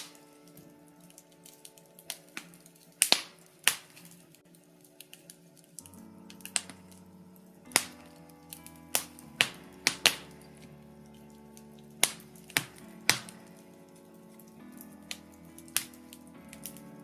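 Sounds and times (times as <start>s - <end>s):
logs crackling in fireplace: 0.0s - 17.0s.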